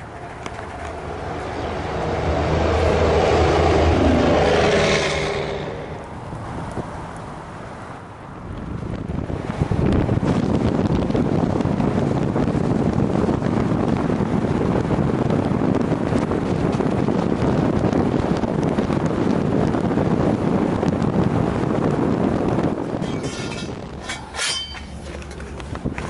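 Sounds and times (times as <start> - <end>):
moving vehicle rumble: 0.0 - 26.0
wind rushing over microphone: 0.0 - 26.0.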